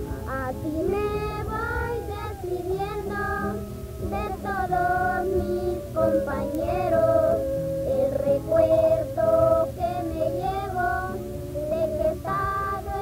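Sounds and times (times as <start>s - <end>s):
children singing: 0.3s - 13.0s.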